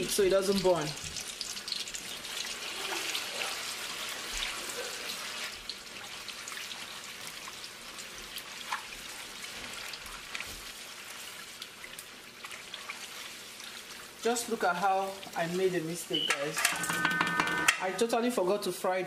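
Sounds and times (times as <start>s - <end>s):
paste sizzling in hot oil: 0.0s - 16.6s
wooden spoon stirring in pot: 2.0s - 17.8s.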